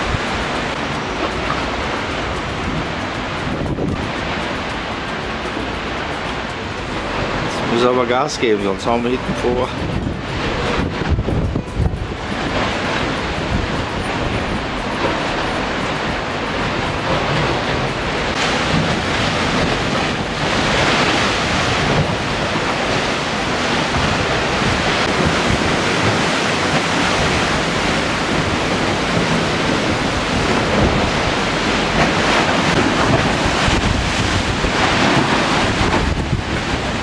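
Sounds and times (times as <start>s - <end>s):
rough sea rushing: 0.0s - 37.0s
wind blowing across microphone: 0.0s - 37.0s.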